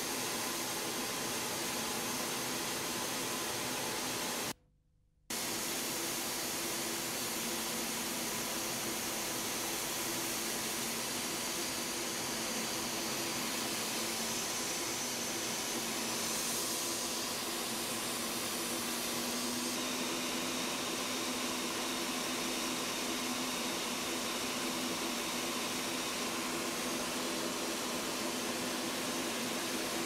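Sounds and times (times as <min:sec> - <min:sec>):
jet engine and airflow rush: 0:00.0 - 0:04.5, 0:05.3 - 0:30.0.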